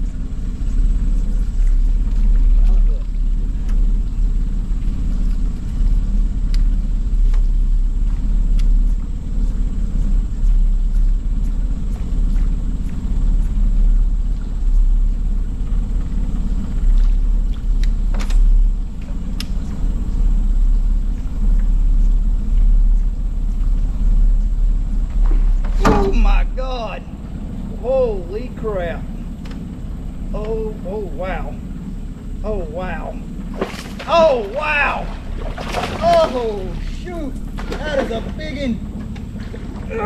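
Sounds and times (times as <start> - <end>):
loud low rumble: 0.0 - 40.0.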